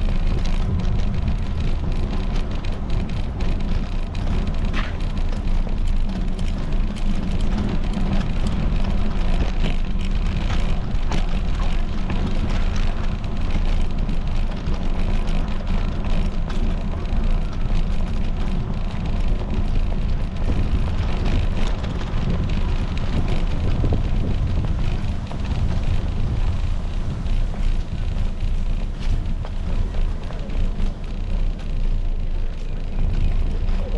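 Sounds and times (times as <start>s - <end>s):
faint clicks and rattles: 0.0s - 33.9s
wind buffeting microphone: 0.0s - 33.9s.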